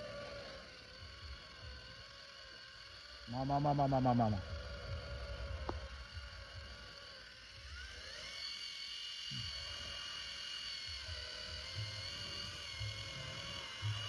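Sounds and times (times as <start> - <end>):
small electric motor whining: 0.0 - 14.0.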